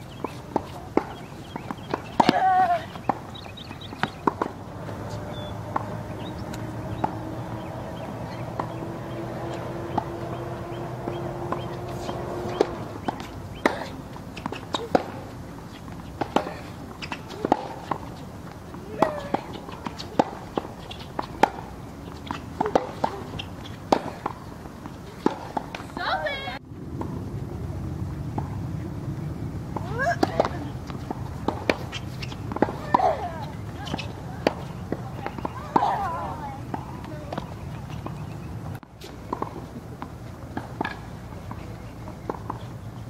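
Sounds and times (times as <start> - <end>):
rackets striking tennis ball: 0.0 - 27.2, 29.8 - 42.8
tennis ball bouncing on court: 0.0 - 27.2, 29.7 - 42.8.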